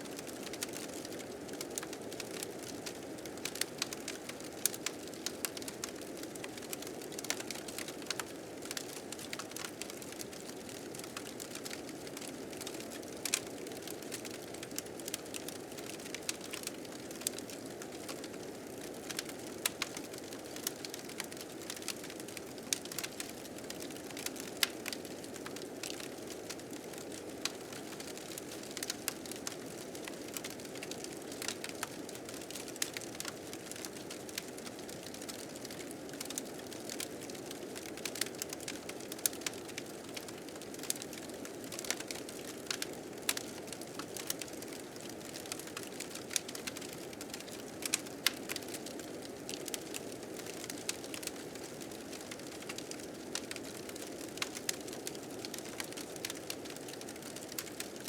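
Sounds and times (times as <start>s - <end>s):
fire crackling and popping: 0.1s - 58.0s.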